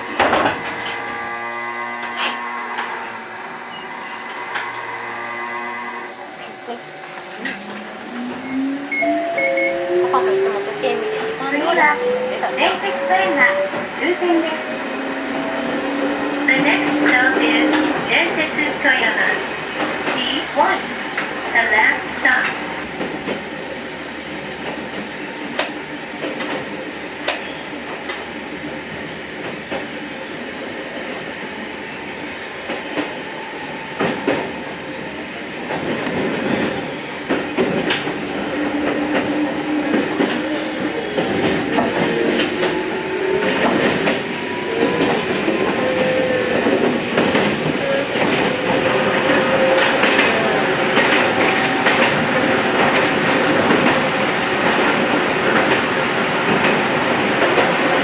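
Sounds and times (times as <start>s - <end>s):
electric train running: 0.0s - 58.0s.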